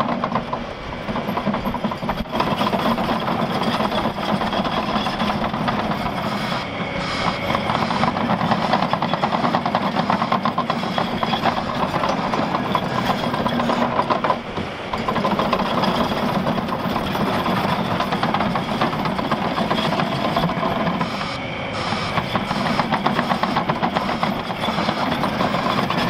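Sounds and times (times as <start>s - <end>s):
steel tracks clattering: 0.0s - 26.0s
diesel engine running: 0.5s - 26.0s.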